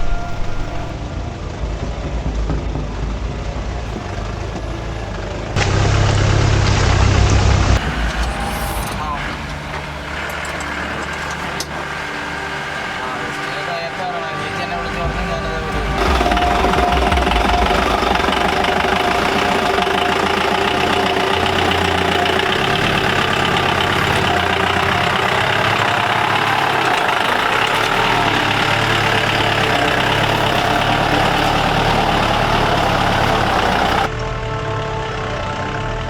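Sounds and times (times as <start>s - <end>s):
vehicle clatter and rattle: 0.0s - 34.3s
diesel engine on rough track: 0.0s - 36.0s.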